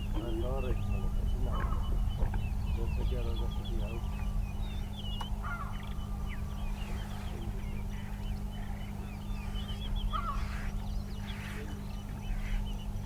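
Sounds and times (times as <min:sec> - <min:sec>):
birds chirping and calling: 0:00.0 - 0:13.0
steady low hum: 0:00.0 - 0:13.0.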